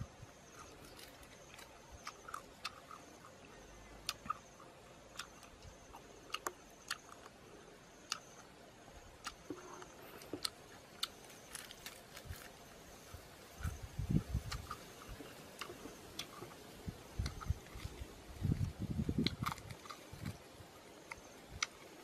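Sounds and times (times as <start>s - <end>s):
person chewing food: 0.4s - 8.5s, 9.1s - 22.0s.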